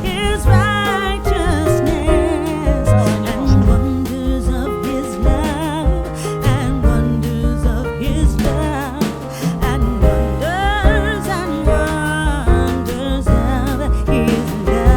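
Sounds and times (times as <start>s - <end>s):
bass: 0.0s - 14.9s
percussion: 0.0s - 14.9s
person singing with vibrato: 0.0s - 14.9s.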